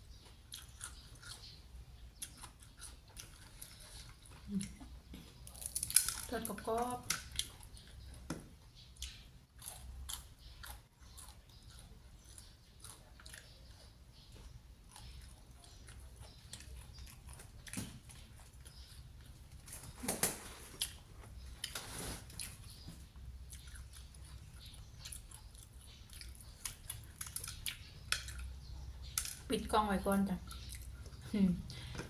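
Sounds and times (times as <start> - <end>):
person chewing crunchy food: 0.0 - 6.3, 7.1 - 19.6, 20.7 - 29.5, 30.5 - 32.0.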